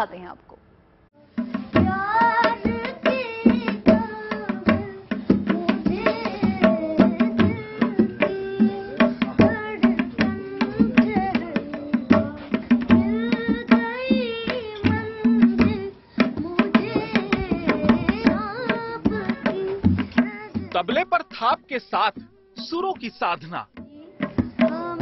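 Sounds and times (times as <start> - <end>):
boy singing: 1.4 - 25.0
tabla drums: 1.4 - 25.0.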